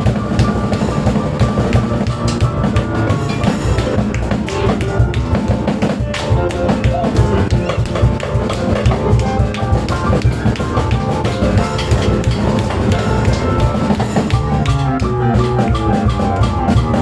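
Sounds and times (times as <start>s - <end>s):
acoustic piano: 0.0s - 17.0s
cajon and drum kit beat: 0.0s - 17.0s.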